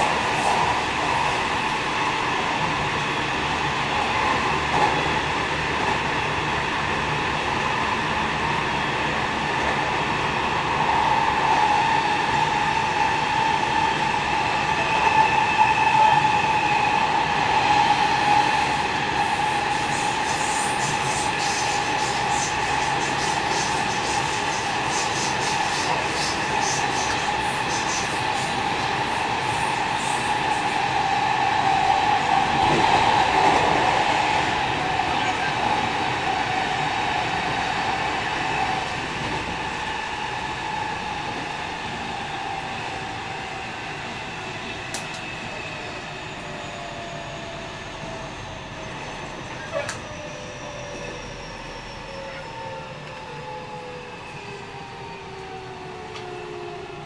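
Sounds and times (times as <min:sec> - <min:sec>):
train drive whine: 0:00.0 - 0:57.0.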